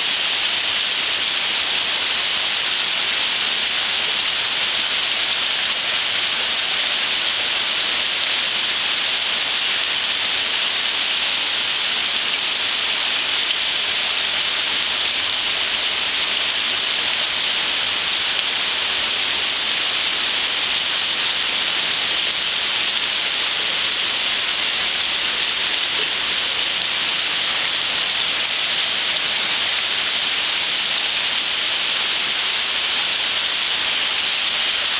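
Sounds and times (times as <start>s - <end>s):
heavy rain and hail falling: 0.0s - 34.9s.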